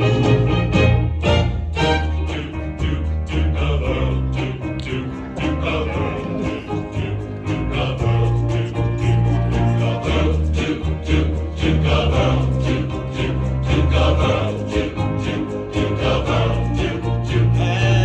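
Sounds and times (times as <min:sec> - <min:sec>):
bass line: 0:00.0 - 0:18.0
doo-wop male chorus singing: 0:01.8 - 0:18.0.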